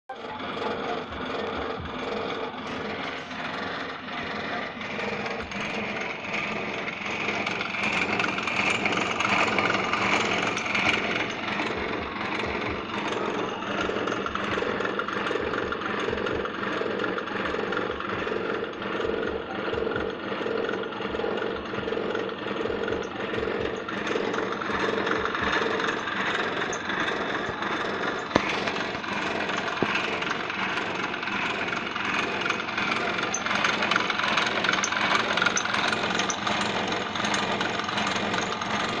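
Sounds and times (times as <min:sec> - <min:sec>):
drill press motor humming: 0:00.1 - 0:39.0
machine rattling: 0:00.1 - 0:39.0.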